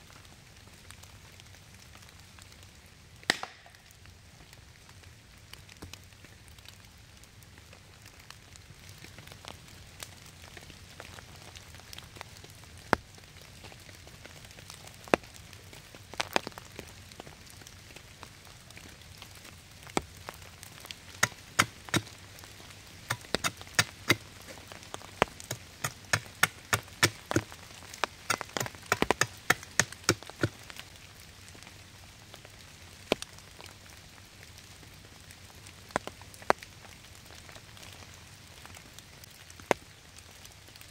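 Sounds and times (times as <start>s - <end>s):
campfire wood crackling: 0.0s - 40.9s
rain pattering: 0.0s - 40.9s.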